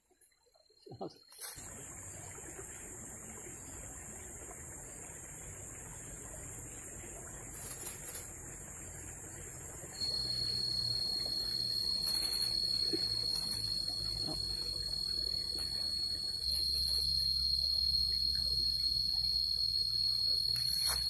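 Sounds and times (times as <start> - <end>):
insect high-pitched call: 0.7 - 21.0.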